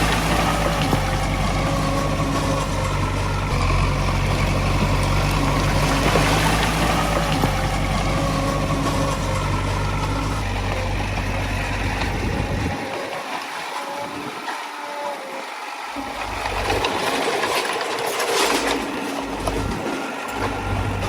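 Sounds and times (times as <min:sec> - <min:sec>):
diesel engine running: 0:00.0 - 0:14.6, 0:15.2 - 0:21.0.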